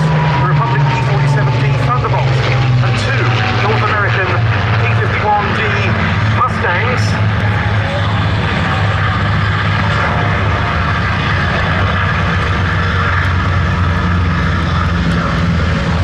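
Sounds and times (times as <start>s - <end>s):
propeller planes taking off: 0.0s - 16.0s.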